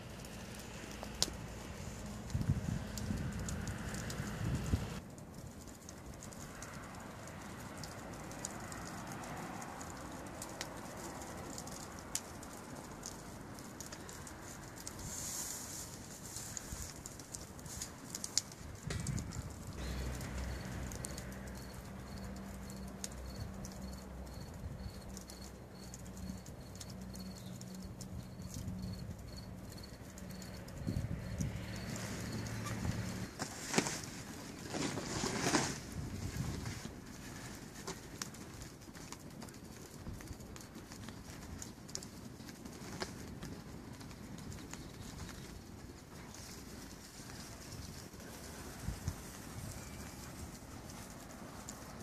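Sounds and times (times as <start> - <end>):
low fire hiss: 0.0 - 52.0
wood fire crackling and popping: 0.0 - 52.0.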